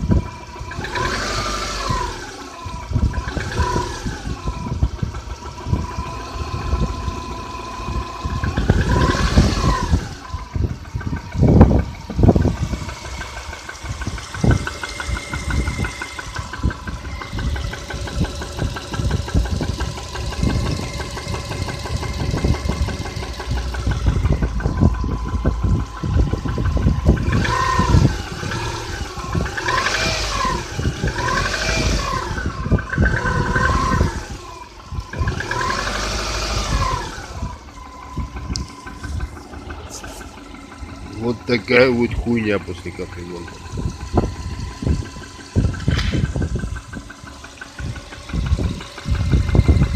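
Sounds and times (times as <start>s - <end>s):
engine knocking and revving: 0.0s - 49.9s.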